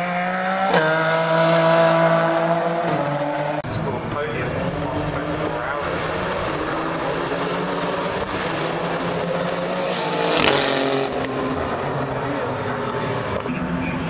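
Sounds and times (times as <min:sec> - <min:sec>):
race car engines: 0:00.0 - 0:14.0
race car passing at speed: 0:00.0 - 0:14.0.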